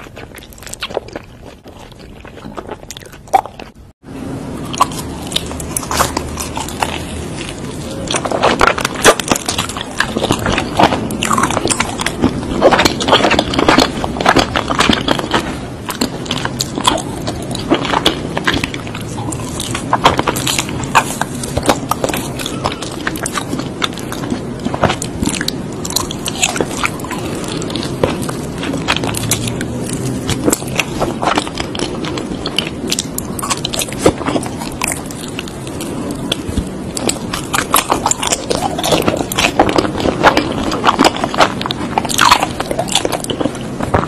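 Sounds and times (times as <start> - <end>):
person chewing with wet smacks: 0.0 - 4.0, 4.6 - 44.0.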